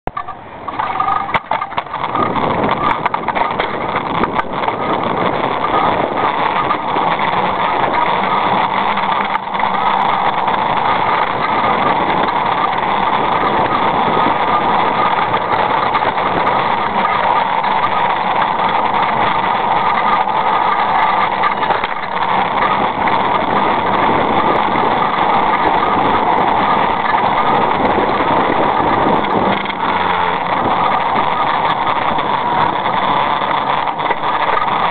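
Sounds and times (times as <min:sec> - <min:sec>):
constant hum: 0:00.0 - 0:34.9
vehicle wheel rolling on pavement: 0:00.0 - 0:34.9.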